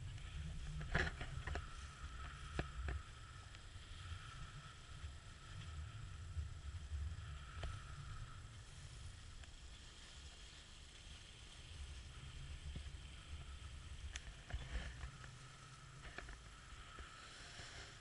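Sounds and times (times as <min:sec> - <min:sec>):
water rushing along hull: 0:00.0 - 0:18.0.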